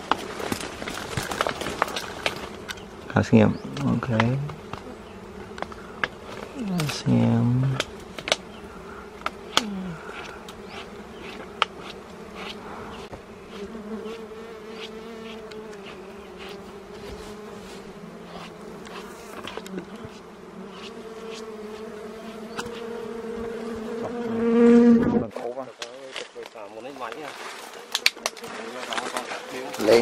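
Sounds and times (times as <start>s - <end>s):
bees buzzing: 0.0s - 25.6s, 26.6s - 30.0s.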